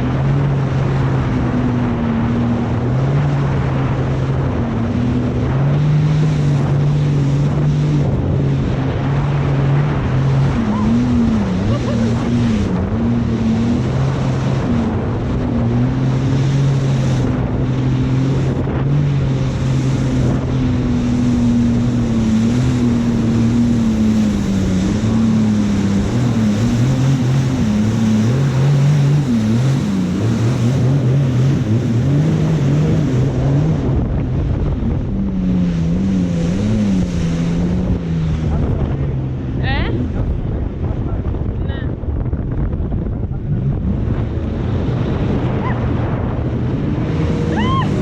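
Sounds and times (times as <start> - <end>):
jet ski engine running: 0.0 - 48.0
rushing water: 0.0 - 48.0
wind buffeting microphone: 0.0 - 48.0.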